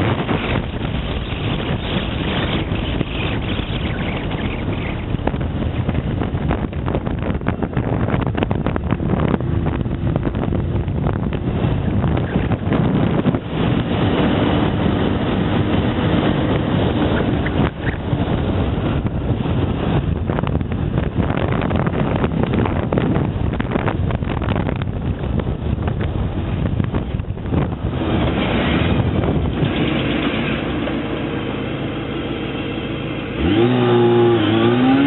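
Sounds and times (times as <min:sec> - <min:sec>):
motorcycle engine running: 0:00.0 - 0:35.0
wind buffeting microphone: 0:00.0 - 0:35.0.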